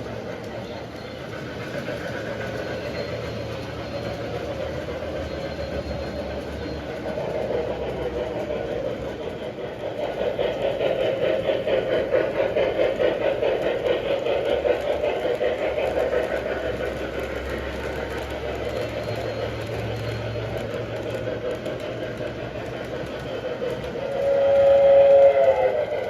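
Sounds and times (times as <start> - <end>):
model train rumbling on track: 0.0 - 26.0
rhythmic wheel clicking: 0.0 - 26.0.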